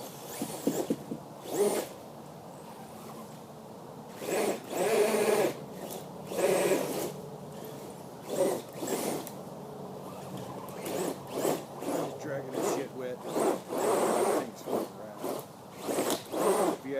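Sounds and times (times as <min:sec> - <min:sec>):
toy truck electric motor whirring: 0:00.0 - 0:02.0, 0:04.1 - 0:09.4, 0:10.1 - 0:16.9.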